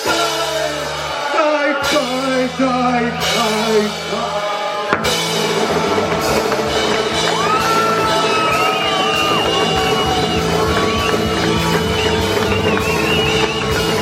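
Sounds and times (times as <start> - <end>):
band music with singing: 0.0 - 14.0.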